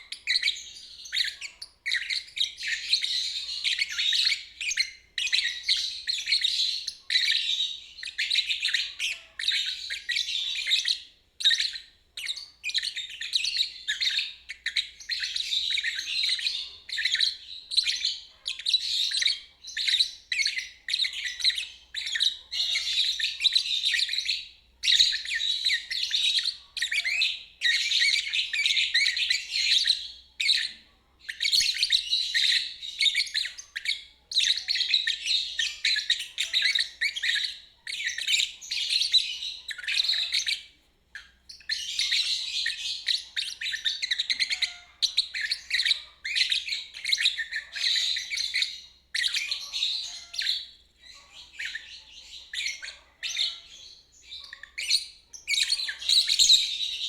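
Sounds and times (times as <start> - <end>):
lovebird twittering: 0.0 - 57.0.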